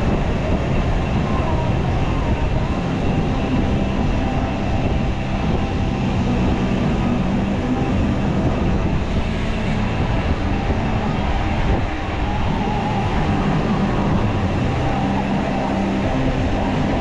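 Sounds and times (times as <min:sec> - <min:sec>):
faint hum: 0:00.0 - 0:17.0
low rumble of a ride: 0:00.0 - 0:17.0.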